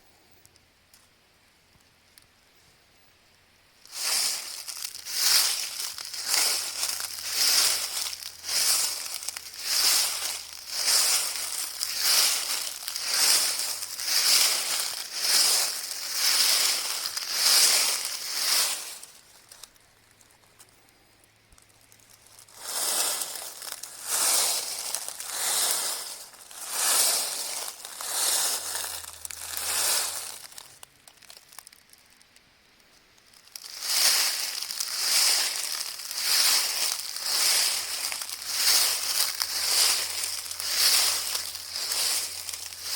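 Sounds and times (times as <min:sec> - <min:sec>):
footsteps crunching dry leaves: 0:03.8 - 0:19.7, 0:21.8 - 0:31.7, 0:33.4 - 0:42.9.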